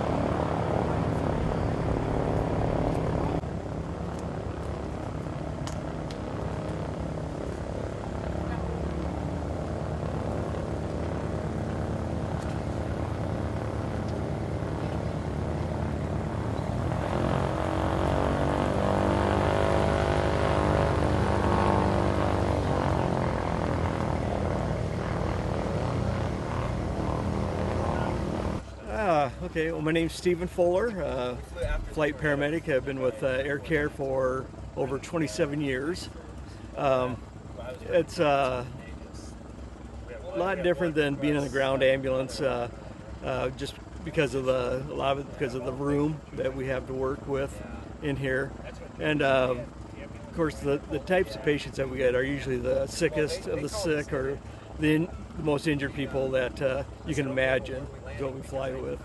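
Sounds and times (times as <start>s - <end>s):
aircraft engine running: 0.0s - 59.0s
propeller airplane passing: 0.0s - 59.0s.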